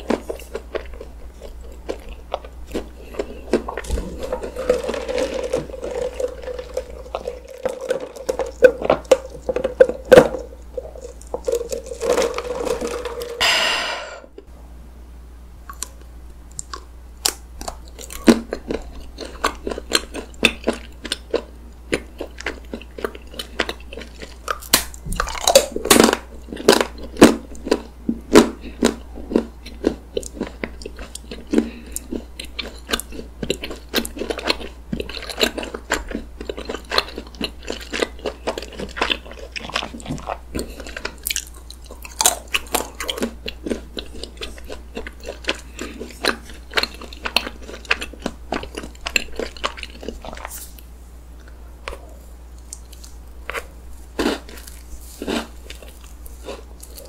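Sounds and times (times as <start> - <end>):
chewing cake: 0.0 - 13.4, 15.7 - 57.0.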